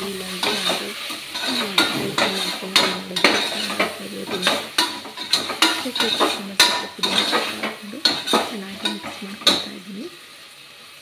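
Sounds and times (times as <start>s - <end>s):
metal spatula scraping pot: 0.0s - 9.7s
frying sizzle: 0.0s - 11.0s.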